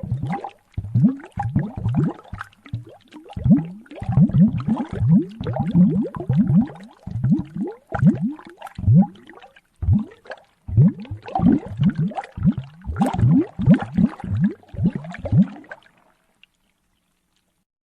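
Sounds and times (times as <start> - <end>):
large bubbles blooping in liquid: 0.0 - 15.9.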